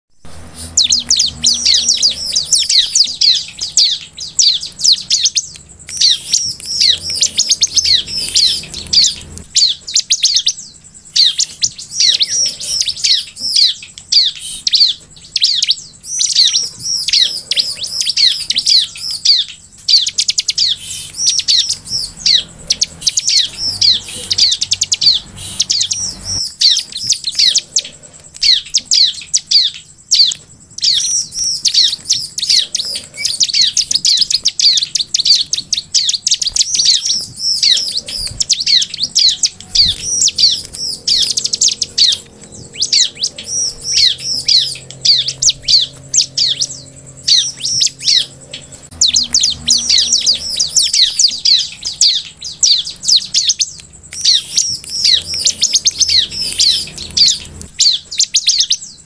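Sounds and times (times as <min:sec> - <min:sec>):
bird singing high chirps: 0:00.1 - 0:59.0.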